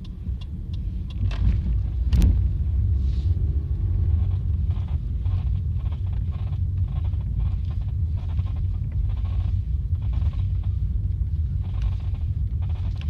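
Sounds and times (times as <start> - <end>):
car low rumble: 0.0 - 13.0
car squeaking: 1.1 - 13.0.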